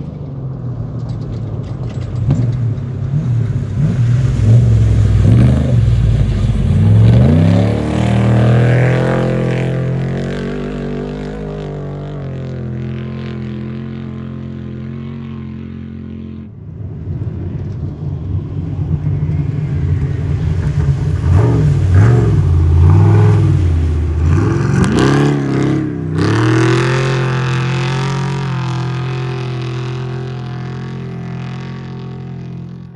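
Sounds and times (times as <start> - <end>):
race vehicle engine revving: 1.9 - 16.6, 18.9 - 32.9.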